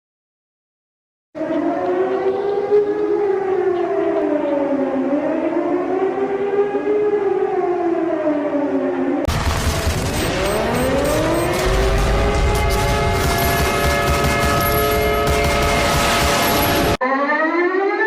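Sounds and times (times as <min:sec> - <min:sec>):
emergency siren wailing: 0:01.4 - 0:18.0.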